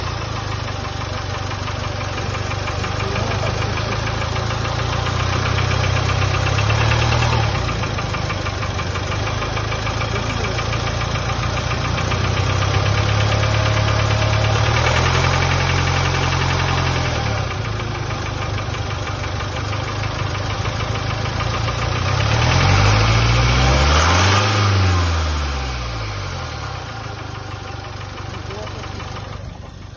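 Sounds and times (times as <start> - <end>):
diesel engine clattering and revving: 0.0 - 29.9.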